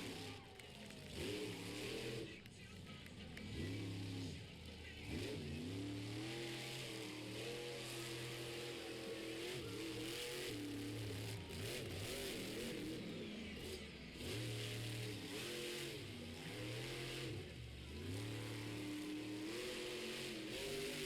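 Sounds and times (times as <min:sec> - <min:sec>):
truck engine revving: 0:00.0 - 0:02.5, 0:03.1 - 0:21.0.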